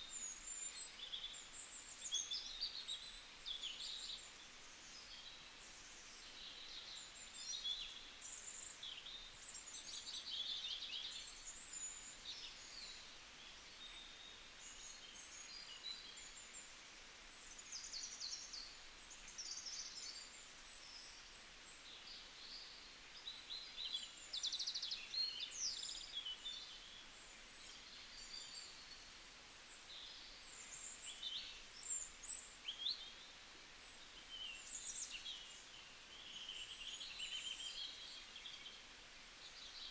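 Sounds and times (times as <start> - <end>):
faint forest ambience hiss: 0.0 - 39.9
songbirds chirping and trilling: 0.0 - 39.9.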